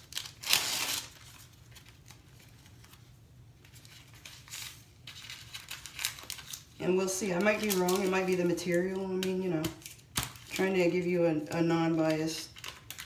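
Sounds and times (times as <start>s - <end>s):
pad wrapper rustling and crinkling: 0.0s - 13.0s.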